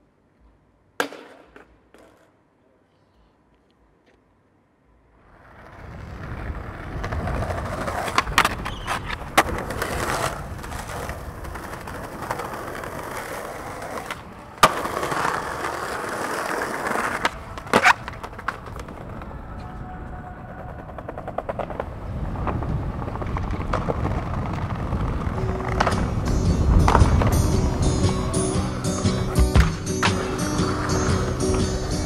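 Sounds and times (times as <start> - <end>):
skateboard wheels rolling on pavement: 0.9 - 2.8, 3.5 - 32.0
skateboard clacking on ground: 1.0 - 2.4, 5.5 - 32.0.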